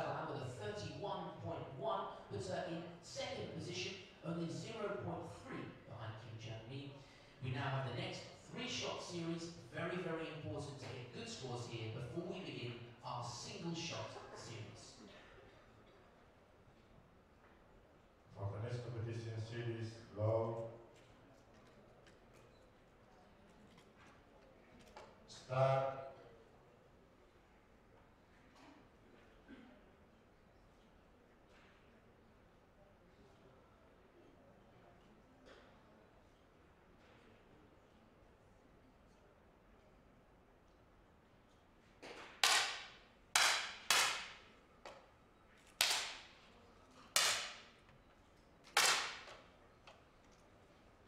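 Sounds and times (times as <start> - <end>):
faint audience sounds: 0.0 - 51.0.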